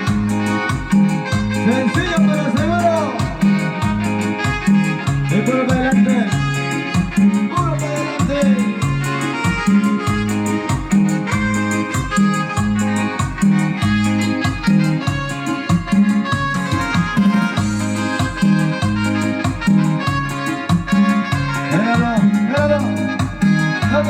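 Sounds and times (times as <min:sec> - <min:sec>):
band playing upbeat dance music: 0:00.0 - 0:24.0.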